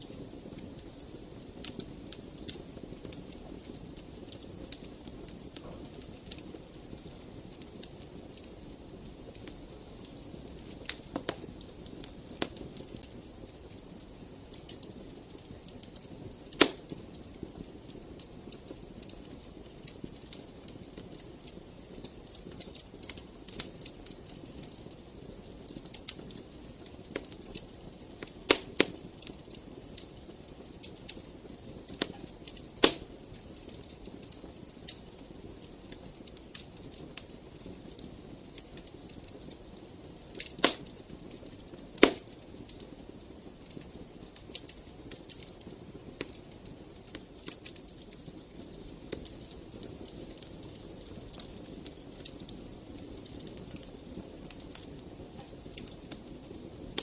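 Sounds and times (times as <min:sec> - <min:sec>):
fire crackling: 0:00.0 - 0:57.0
loud fire pops: 0:00.0 - 0:57.0.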